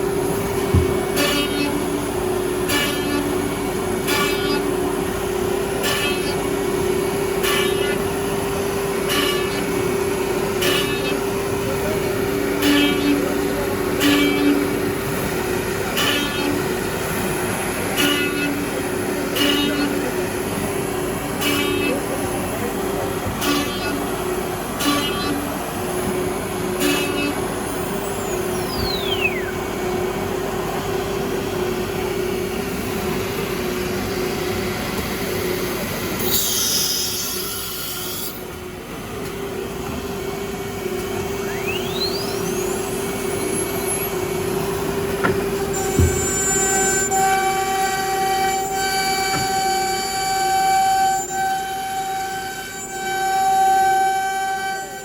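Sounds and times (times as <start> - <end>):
cnc router spindle whine: 0.0 - 55.0.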